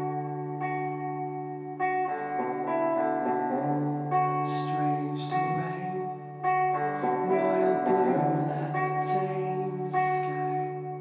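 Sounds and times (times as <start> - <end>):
electric guitar chords: 0.0 - 11.0.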